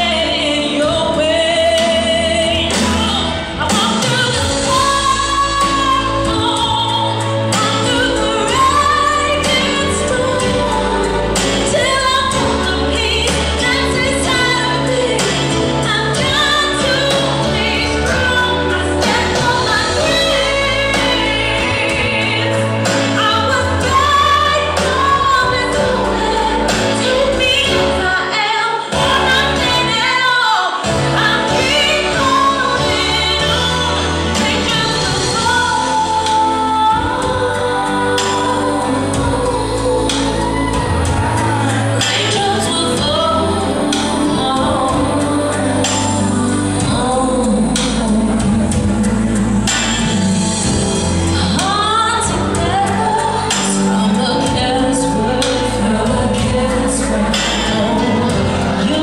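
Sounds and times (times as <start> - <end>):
pop song with female vocal: 0.0 - 59.0.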